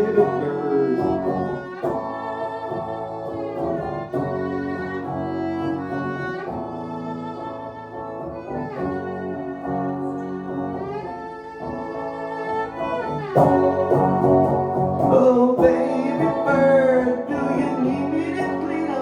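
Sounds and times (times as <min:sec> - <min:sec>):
band playing slow instrumental: 0:00.0 - 0:19.0.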